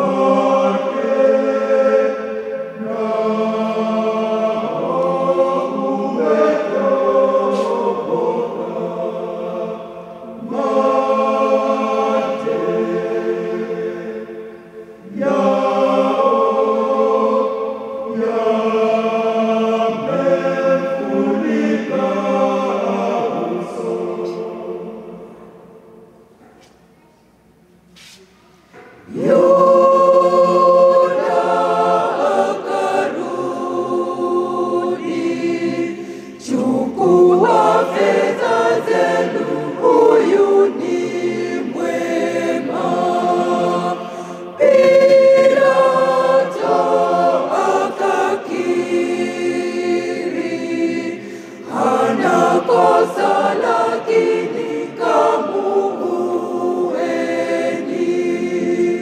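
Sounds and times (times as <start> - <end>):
choir singing a hymn: 0.0 - 26.8, 28.2 - 59.0.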